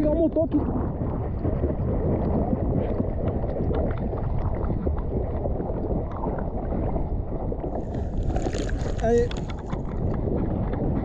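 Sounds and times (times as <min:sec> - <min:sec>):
seawater sloshing and splashing: 0:00.2 - 0:11.0.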